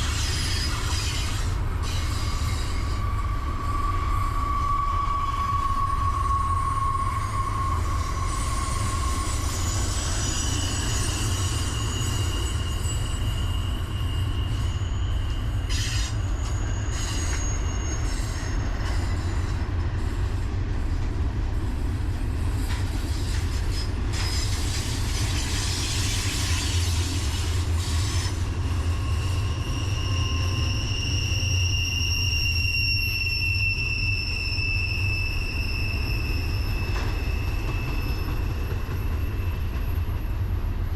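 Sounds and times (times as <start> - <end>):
freight train rumbling: 0.0 - 40.9
wheels squealing on rails: 0.0 - 40.9.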